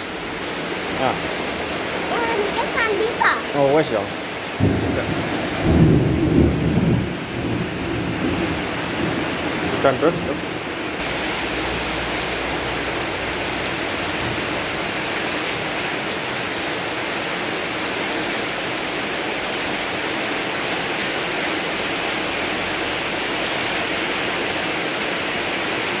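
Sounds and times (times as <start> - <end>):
heavy rain splashing on pond water: 0.0 - 26.0.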